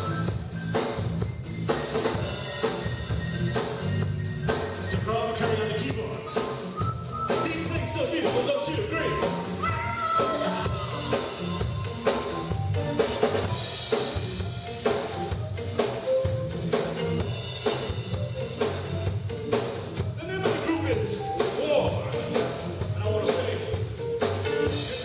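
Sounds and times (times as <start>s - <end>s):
live band playing: 0.0s - 25.0s
snare and bass drum beat: 0.0s - 25.0s.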